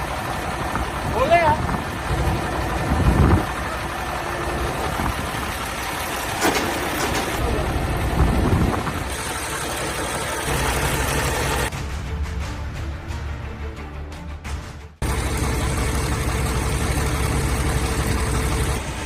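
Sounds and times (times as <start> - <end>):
diesel truck engine idling: 0.0 - 11.7, 15.0 - 19.0.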